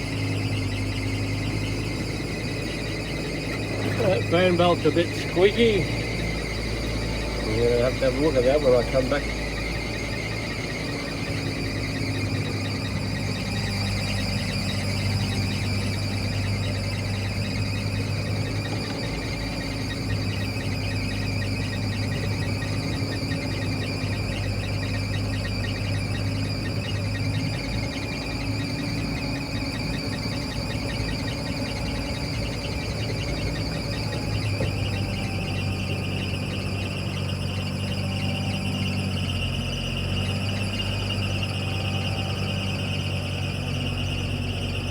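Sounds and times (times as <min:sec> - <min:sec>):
squeaky fan belt squeal: 0:00.0 - 0:44.9
truck engine low hum: 0:00.0 - 0:44.9.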